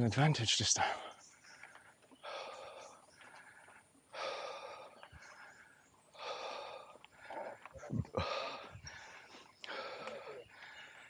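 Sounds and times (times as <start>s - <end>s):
cyclist breathing hard: 1.0s - 11.0s.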